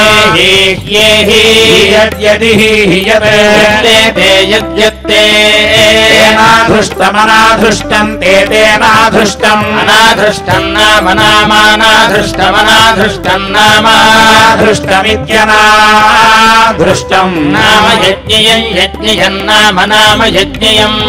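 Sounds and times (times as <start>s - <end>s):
person singing devotional chant: 0.0s - 21.0s.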